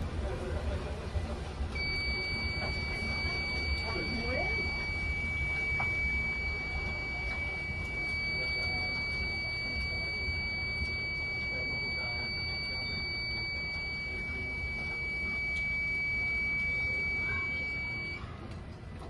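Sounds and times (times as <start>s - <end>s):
high-pitched electronic whine: 1.8s - 18.2s.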